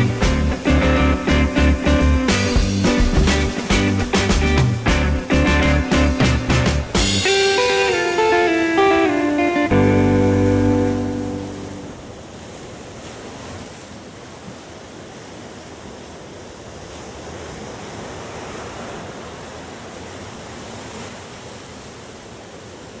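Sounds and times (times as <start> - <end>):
ocean surf breaking over rocks: 0.0 - 23.0.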